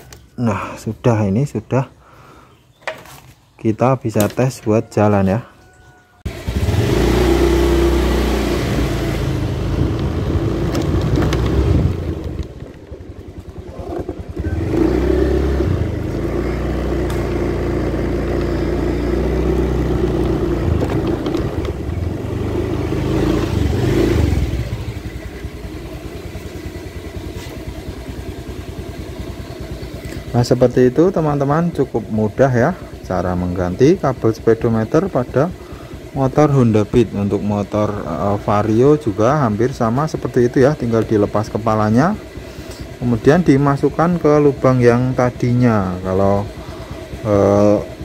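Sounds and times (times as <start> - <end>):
scooter engine revving and idling: 6.2 - 48.0.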